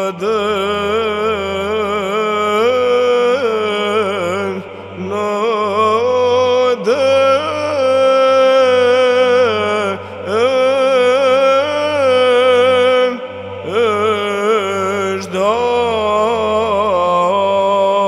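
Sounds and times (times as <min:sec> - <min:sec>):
person chanting ornamented melody: 0:00.0 - 0:18.0
steady held drone: 0:00.0 - 0:18.0.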